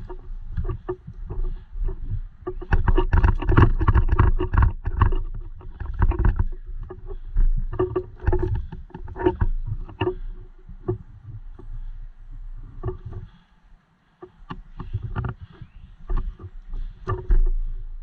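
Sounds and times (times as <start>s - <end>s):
clatter of knocks and rattles: 0.0s - 11.9s, 14.2s - 17.8s.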